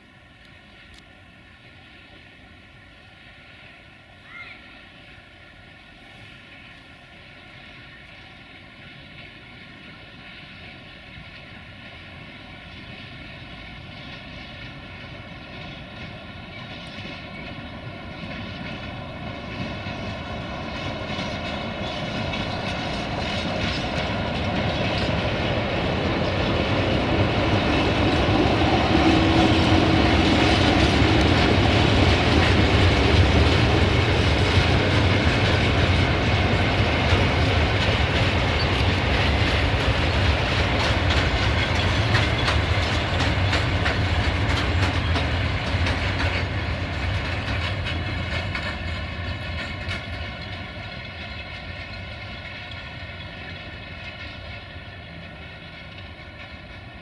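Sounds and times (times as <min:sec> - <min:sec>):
low train rumble: 0:00.0 - 0:57.0
train wheels clattering: 0:06.5 - 0:57.0.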